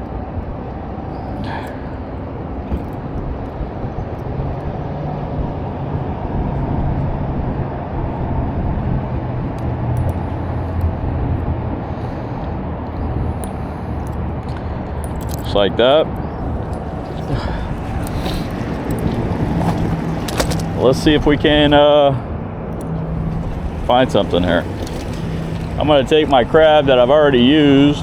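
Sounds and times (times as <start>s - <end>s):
passing vehicle hum: 0.0s - 28.0s
road traffic rumble: 0.0s - 28.0s.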